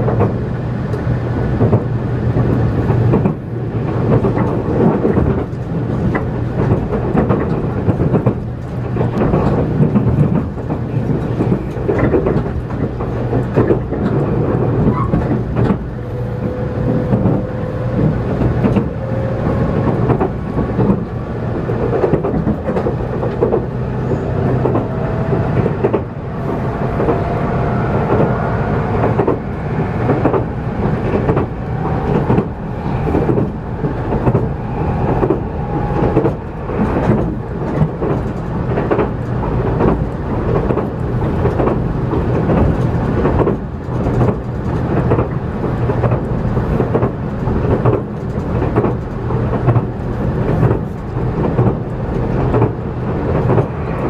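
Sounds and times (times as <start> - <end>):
train interior rumble: 0.0 - 54.0
wheels clacking on rails: 0.0 - 54.0.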